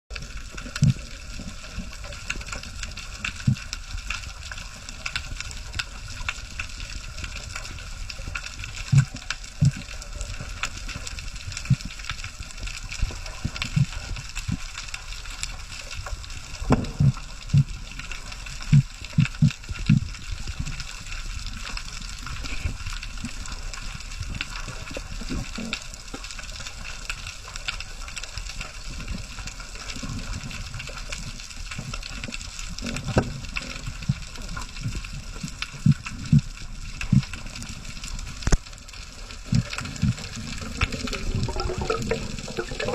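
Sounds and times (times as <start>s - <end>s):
water rushing and sloshing: 0.1s - 42.9s.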